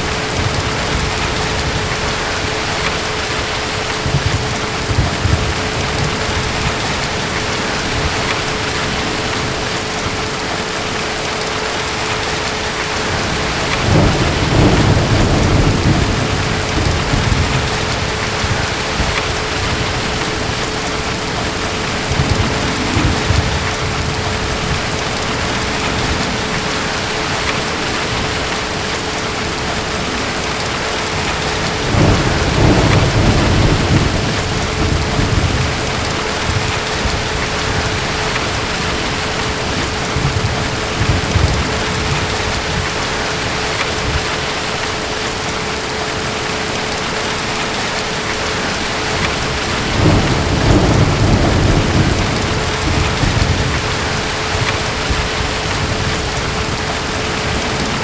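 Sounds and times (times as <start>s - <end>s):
distant thunder rolling: 0.0s - 44.3s, 48.4s - 58.0s
heavy rain: 0.0s - 58.0s.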